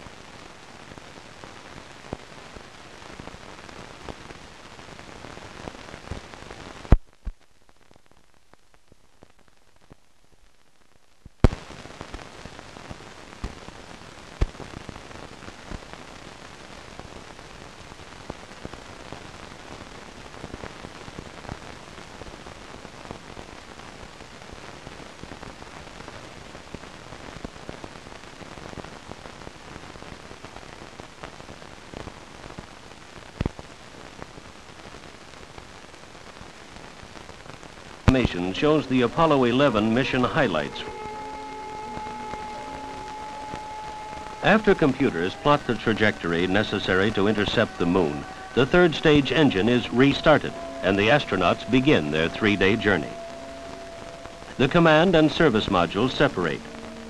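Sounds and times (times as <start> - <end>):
film soundtrack hiss and crackle: 0.0 - 57.0.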